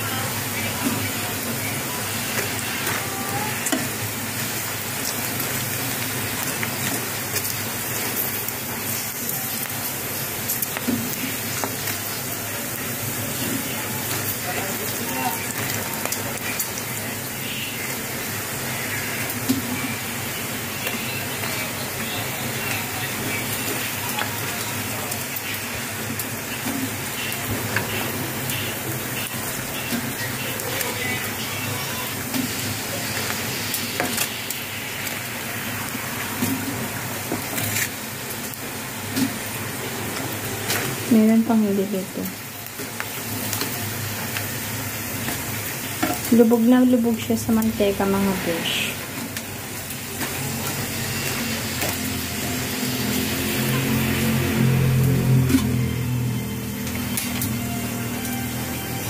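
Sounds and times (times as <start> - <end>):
crackers sizzling in oil: 0.0 - 59.0.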